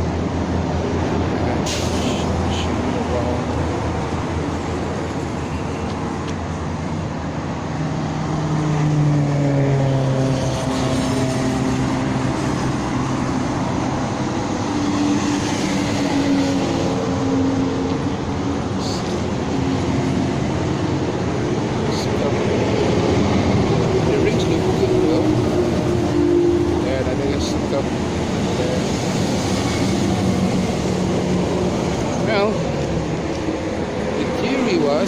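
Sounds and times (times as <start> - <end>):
motor vehicle engine: 0.0 - 35.0.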